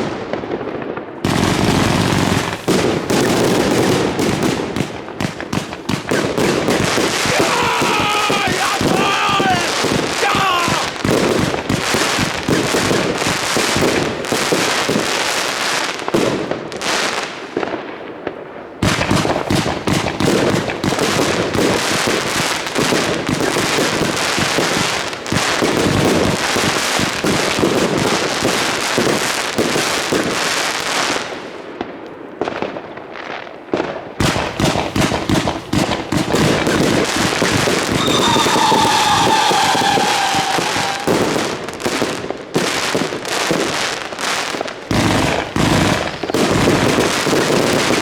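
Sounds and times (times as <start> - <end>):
fireworks cracks and bangs: 0.0 - 48.0.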